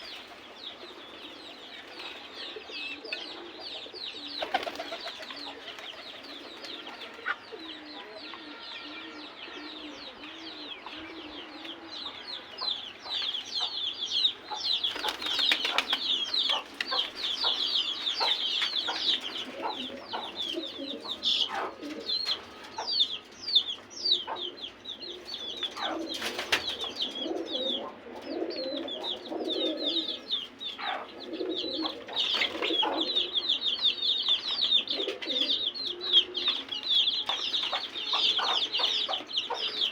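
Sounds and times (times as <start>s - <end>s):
pigeons cooing: 0.0s - 23.4s, 24.1s - 39.9s
small birds chirping: 0.0s - 39.9s.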